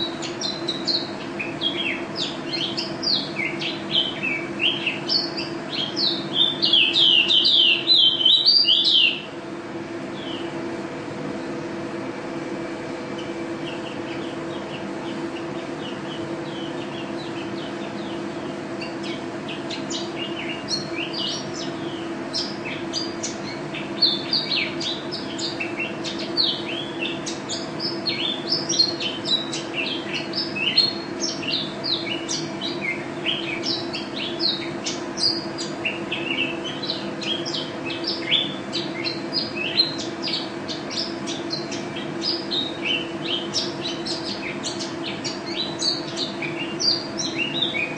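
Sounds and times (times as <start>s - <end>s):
bird chirping song: 0.0s - 9.4s, 10.1s - 10.6s, 13.1s - 47.9s
steady low hum: 0.0s - 47.9s.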